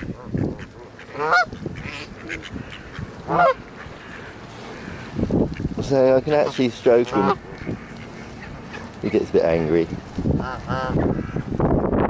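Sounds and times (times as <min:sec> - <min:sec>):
geese honking: 0:00.0 - 0:11.4.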